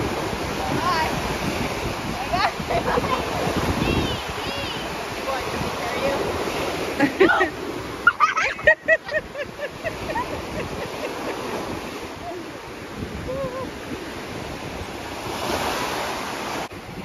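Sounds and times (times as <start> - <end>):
surf waves washing on beach: 0.0 - 17.0.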